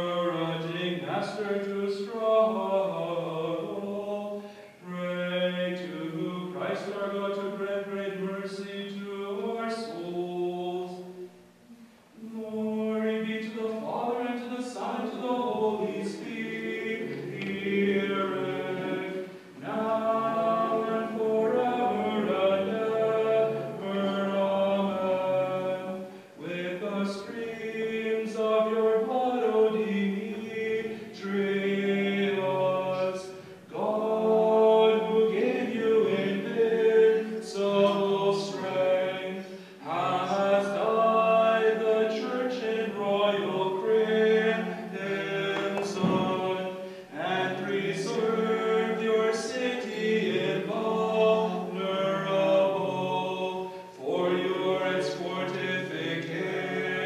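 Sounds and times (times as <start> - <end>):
group singing liturgical chant: 0.0 - 57.0.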